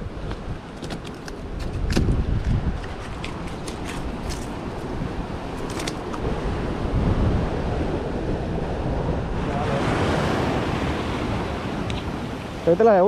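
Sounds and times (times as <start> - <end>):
sea surf washing against rocks: 0.0 - 13.0
wind buffeting microphone: 0.0 - 13.0.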